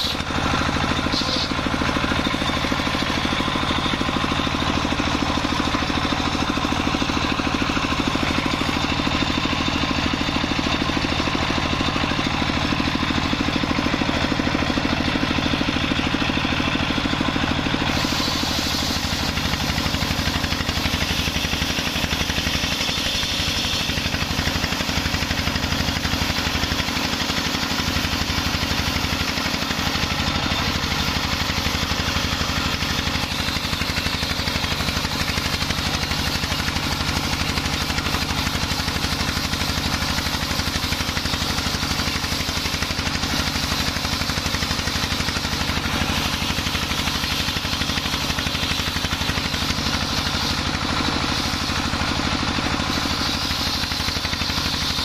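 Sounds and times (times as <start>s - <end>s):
circular saw ripping wood: 0.0s - 55.0s.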